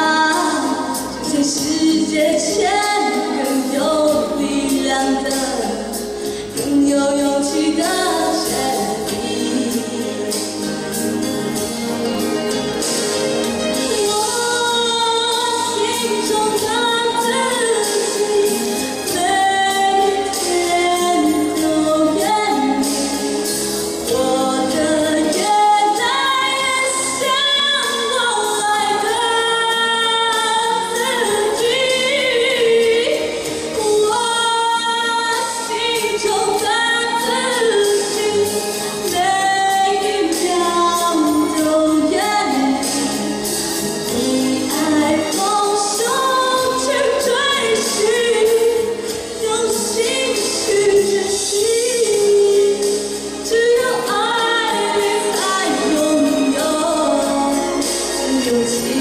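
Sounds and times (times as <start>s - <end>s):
woman singing into microphone: 0.0s - 12.2s, 13.5s - 59.0s
instrumental accompaniment: 0.0s - 59.0s.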